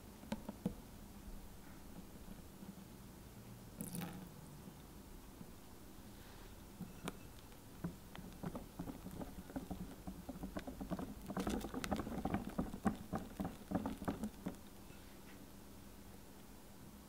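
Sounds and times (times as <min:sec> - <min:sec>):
soft wet mixture sounds: 0:01.3 - 0:16.6.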